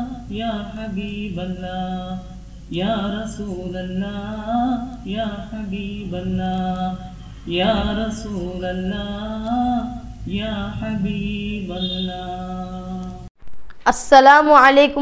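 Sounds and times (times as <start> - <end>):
solo voice chanting: 0.0 - 13.3.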